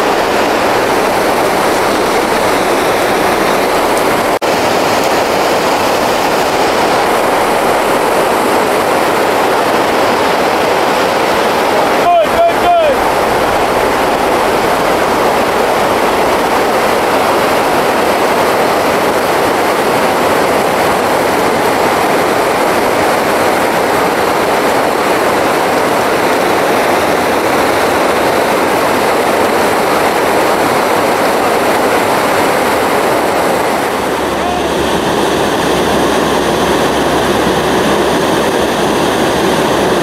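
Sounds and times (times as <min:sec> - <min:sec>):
river water rushing over rocks: 0:00.0 - 0:40.0.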